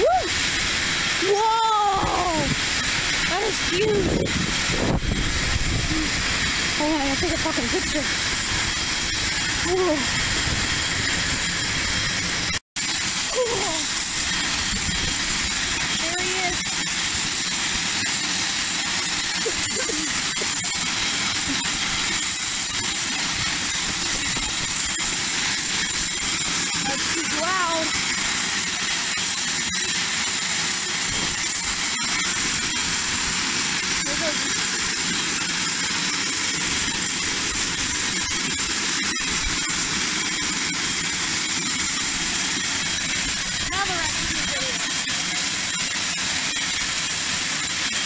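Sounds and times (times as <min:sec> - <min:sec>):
jet engines rushing with turbine whine: 0:00.0 - 0:48.0.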